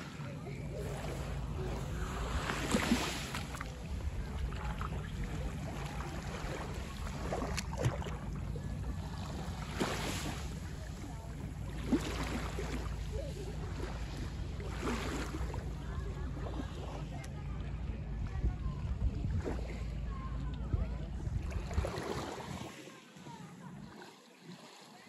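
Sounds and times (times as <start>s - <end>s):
steady low rumble: 0.0s - 22.7s
small waves lapping on sand: 0.0s - 25.0s.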